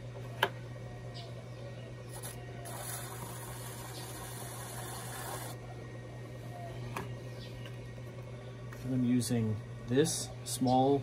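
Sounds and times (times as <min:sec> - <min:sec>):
pottery wheel motor hum: 0:00.0 - 0:11.0.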